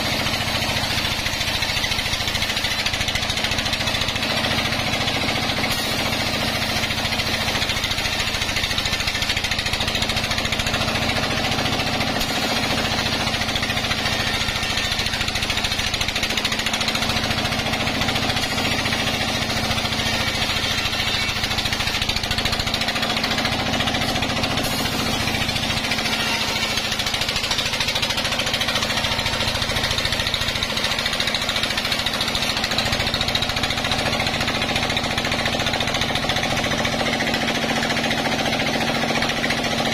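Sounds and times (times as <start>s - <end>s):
band saw ripping a log: 0.0s - 34.0s
constant machine hum: 0.0s - 39.9s.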